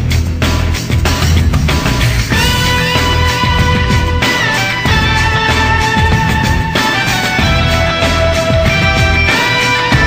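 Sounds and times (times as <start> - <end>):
loud rock music with heavy bass: 0.0 - 10.0.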